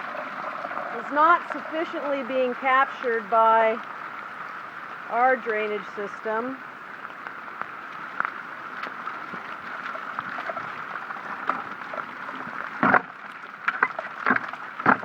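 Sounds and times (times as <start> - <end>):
rainwater gurgling from drain: 0.0 - 15.0.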